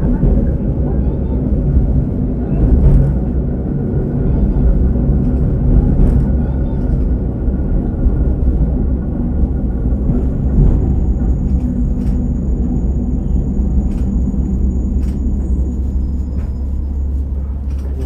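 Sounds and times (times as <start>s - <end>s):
diesel railcar rumble: 0.0s - 18.0s.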